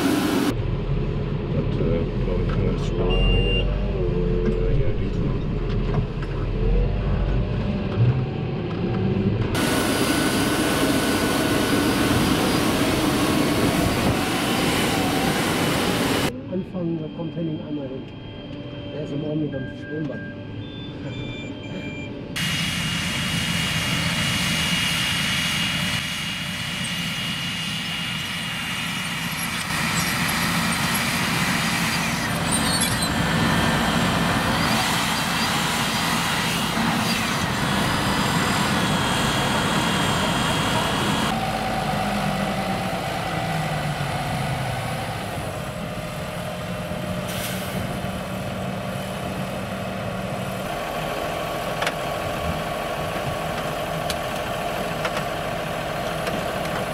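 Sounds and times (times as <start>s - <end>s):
tractor engine running: 0.0s - 16.3s, 21.8s - 56.9s.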